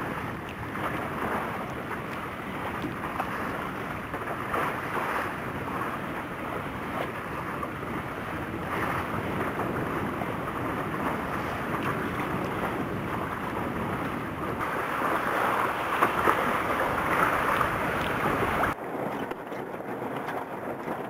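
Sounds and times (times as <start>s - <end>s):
water rushing along boat: 0.0s - 21.0s
wind buffeting microphone: 0.0s - 21.0s.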